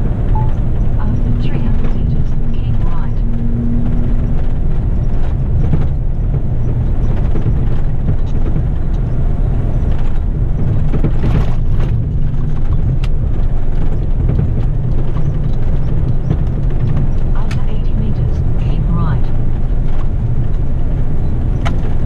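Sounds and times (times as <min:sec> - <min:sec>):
road noise: 0:00.0 - 0:22.0
truck diesel engine droning: 0:00.0 - 0:22.0.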